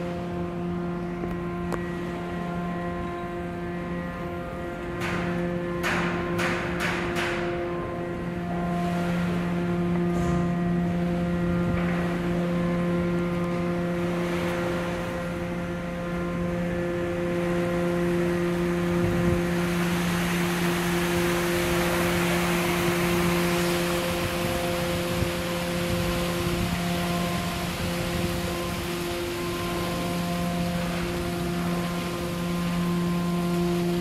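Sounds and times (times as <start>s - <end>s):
machinery humming: 0.0s - 34.0s
water rushing and splashing: 0.0s - 34.0s.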